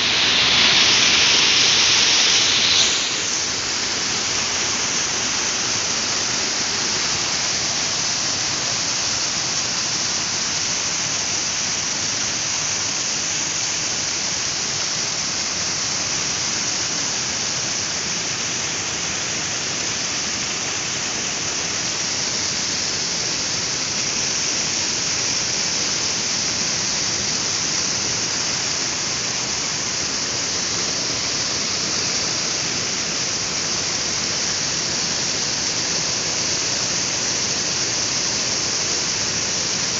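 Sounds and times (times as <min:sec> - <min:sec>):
water cascading down wall: 0:00.0 - 0:39.9.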